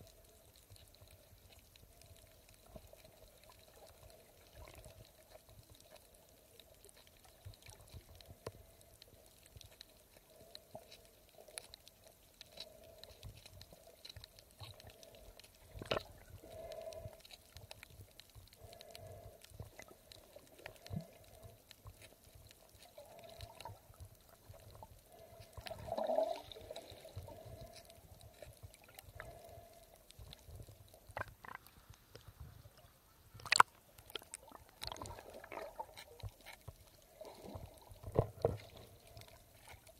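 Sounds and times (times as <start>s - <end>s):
underwater water movement and bubbling: 0.0s - 39.9s.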